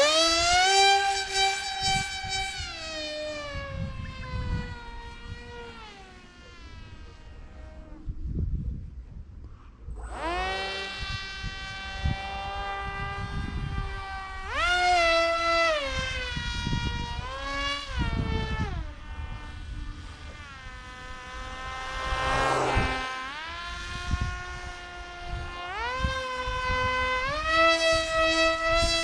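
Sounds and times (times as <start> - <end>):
model plane motor buzzing: 0.0 - 8.8, 9.4 - 29.0.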